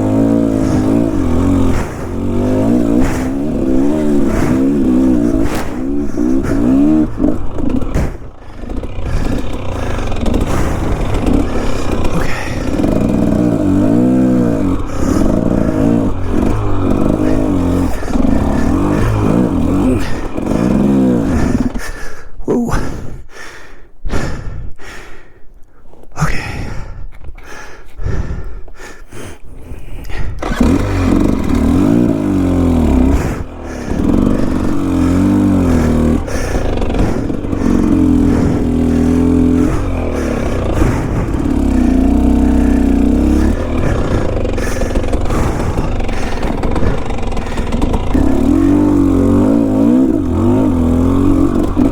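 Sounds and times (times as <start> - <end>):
bike clatter: 0.0 - 21.8, 30.4 - 51.9
dirt bike engine revving: 0.0 - 22.8, 30.1 - 51.9.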